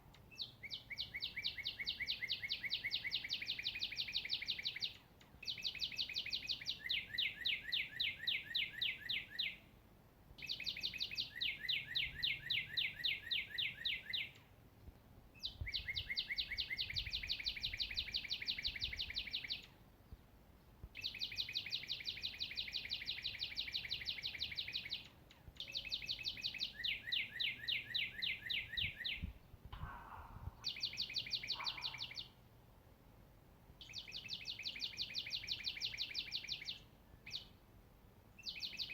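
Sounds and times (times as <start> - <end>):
songbird trilling: 0.3 - 9.6, 10.4 - 14.4, 15.4 - 19.7, 21.0 - 32.4, 33.8 - 37.5, 38.4 - 38.9.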